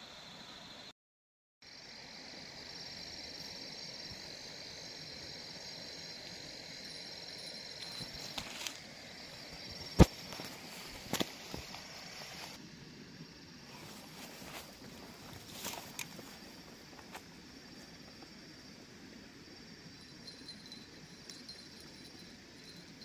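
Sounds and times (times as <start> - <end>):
insects trilling: 1.6 - 23.0.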